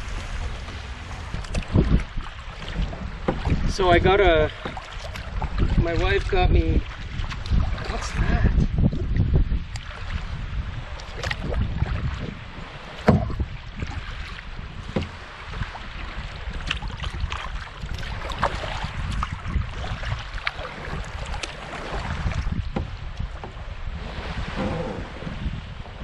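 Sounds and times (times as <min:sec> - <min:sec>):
paddle splashing in water: 0:00.0 - 0:09.0, 0:09.6 - 0:26.0
wind rumbling on microphone: 0:00.0 - 0:26.0.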